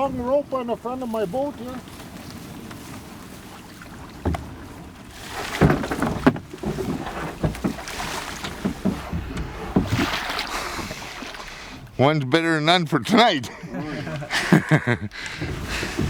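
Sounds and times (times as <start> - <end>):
knocks and clatter on a boat: 0.0 - 12.1, 13.1 - 16.0.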